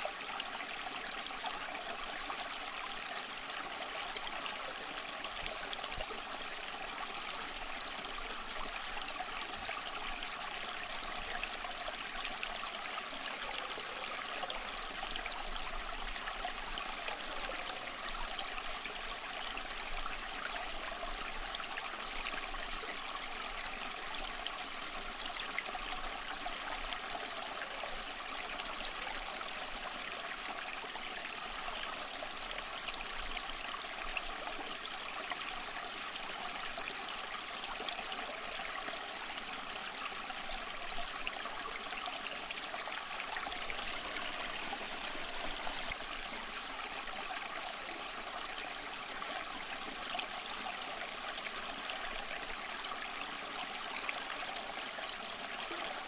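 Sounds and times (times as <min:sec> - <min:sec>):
fountain water trickling: 0:00.0 - 0:56.0.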